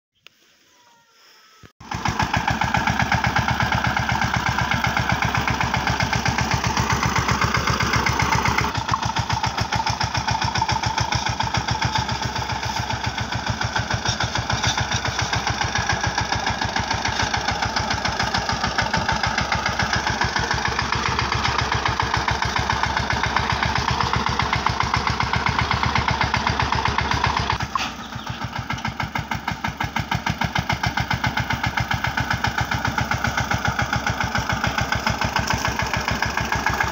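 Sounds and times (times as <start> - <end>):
tractor diesel engine under load: 1.8 - 36.9.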